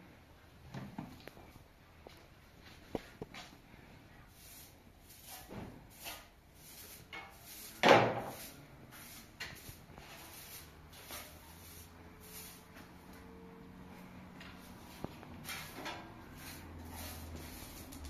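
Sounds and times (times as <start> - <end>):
broom swishing over tiled floor: 2.6 - 18.0.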